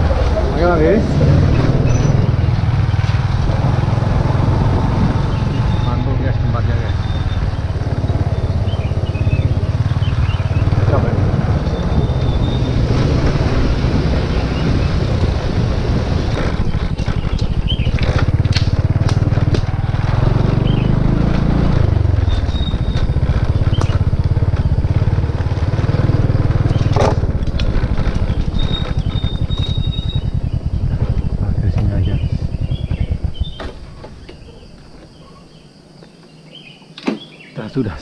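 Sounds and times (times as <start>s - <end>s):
motorcycle engine running: 0.0s - 35.2s.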